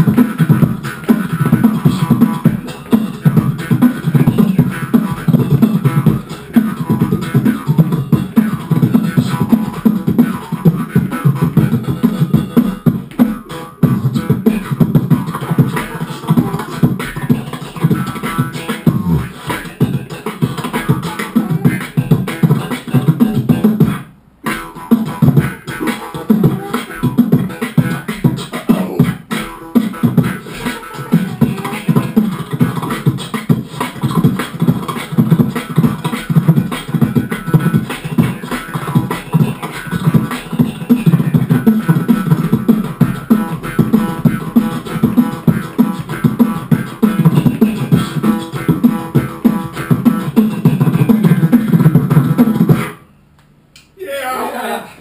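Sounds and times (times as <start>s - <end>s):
person beatboxing into microphone: 0.0s - 52.9s.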